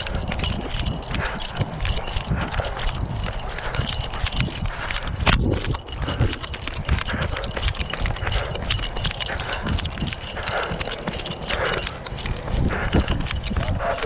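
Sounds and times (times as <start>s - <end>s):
footsteps on concrete: 0.0s - 14.0s.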